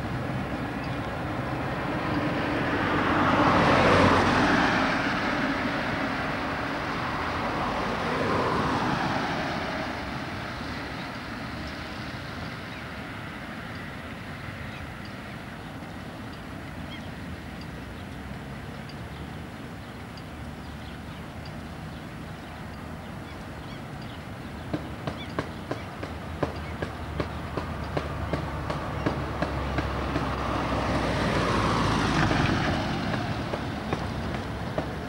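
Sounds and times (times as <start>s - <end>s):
low steady traffic noise: 0.0s - 35.0s
vehicles passing by: 0.0s - 35.0s.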